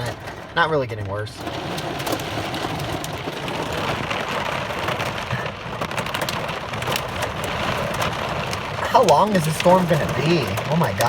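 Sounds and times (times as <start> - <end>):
heavy rain on a car: 0.0 - 11.0
raindrops ticking on car body: 0.0 - 11.0.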